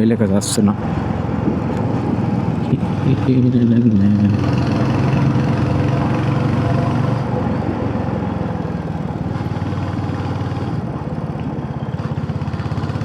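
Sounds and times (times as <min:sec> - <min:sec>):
motorcycle engine running: 0:00.8 - 0:13.0.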